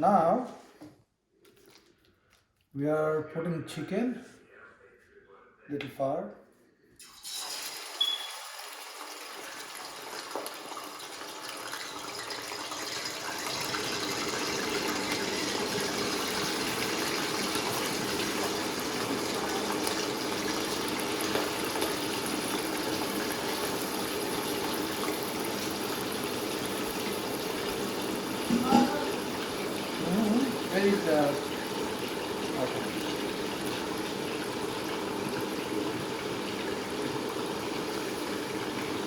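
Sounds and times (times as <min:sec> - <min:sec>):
chicken sizzling in hot oil: 0:07.0 - 0:39.0.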